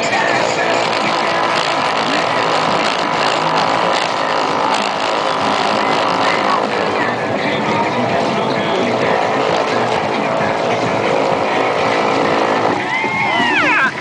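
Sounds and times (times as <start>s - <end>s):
electric motor whine: 0.0s - 13.8s.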